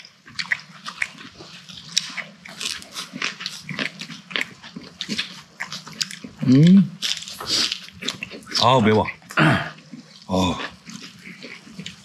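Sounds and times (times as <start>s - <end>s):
person chewing and crunching: 0.0s - 12.0s.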